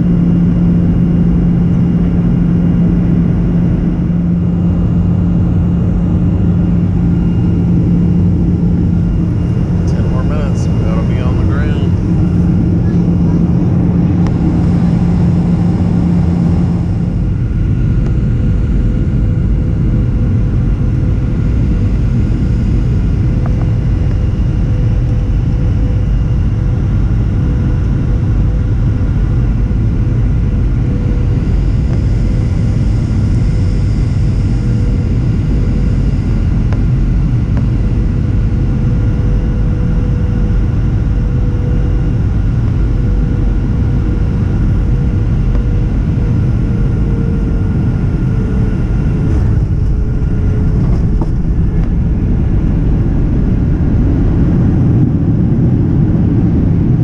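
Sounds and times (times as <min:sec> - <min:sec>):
jet engine roar in cabin: 0:00.0 - 0:57.0
low hum: 0:00.0 - 0:57.0
steady whine: 0:00.0 - 0:57.0.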